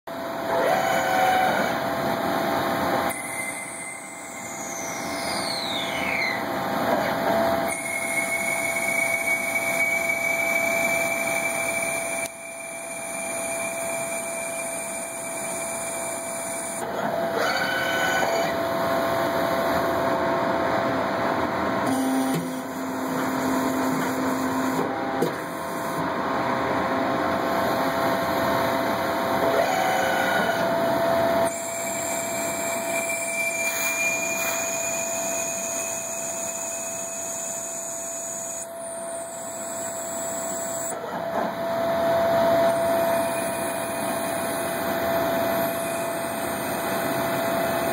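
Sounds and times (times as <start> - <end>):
lathe motor and spindle whine: 0.1 - 47.9.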